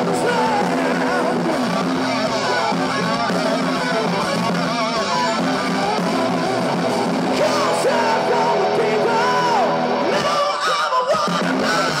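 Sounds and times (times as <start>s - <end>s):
electric guitar lead line bending: 0.0s - 10.6s
rock band playing loud: 0.0s - 12.0s.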